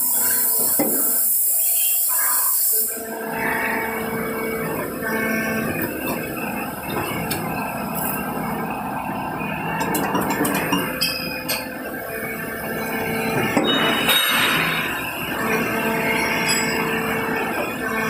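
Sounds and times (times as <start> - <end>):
moulding machine humming: 3.0 - 18.0.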